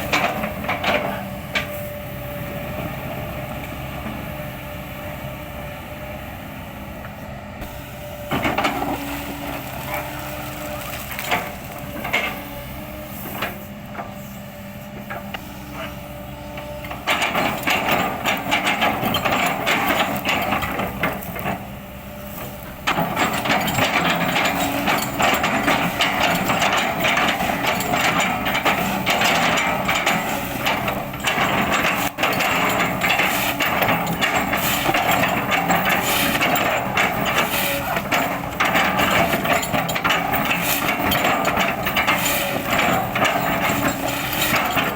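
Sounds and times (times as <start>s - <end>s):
excavator engine under load: 0.0s - 44.9s
excavator bucket crushing wood: 7.6s - 14.2s, 14.9s - 44.9s.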